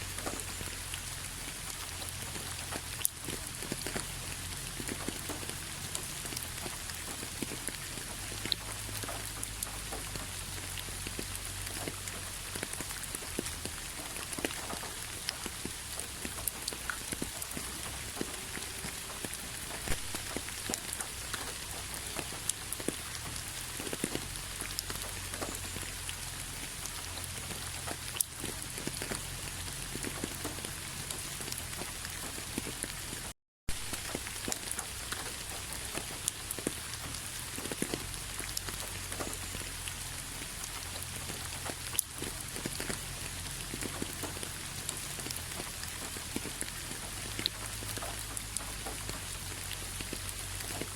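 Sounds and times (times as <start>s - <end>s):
raindrops ticking on a surface: 0.0s - 50.9s
steady rainfall hiss: 0.0s - 50.9s.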